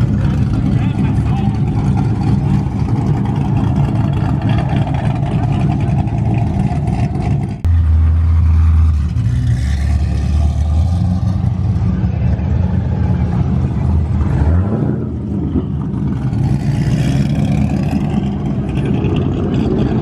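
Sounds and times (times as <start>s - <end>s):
deep steady engine drone: 0.0s - 20.0s
loud vehicle engines running: 0.0s - 20.0s.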